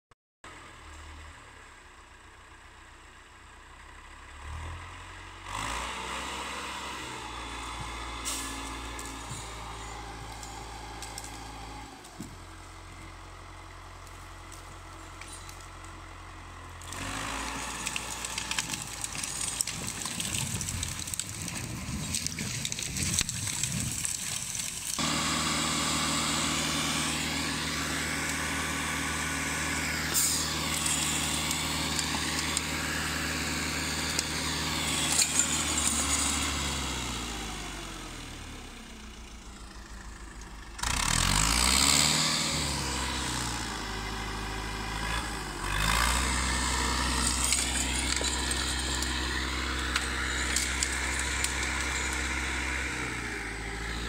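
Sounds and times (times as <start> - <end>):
diesel engine revving: 3.5 - 54.0.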